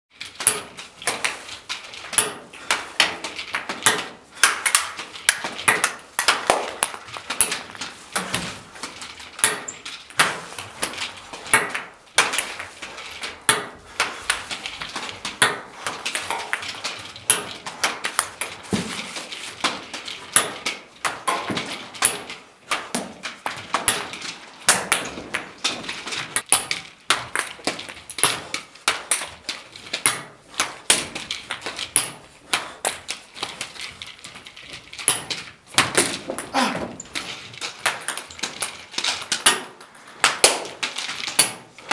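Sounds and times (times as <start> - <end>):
nunchaku striking ping pong balls: 0.2 - 41.9.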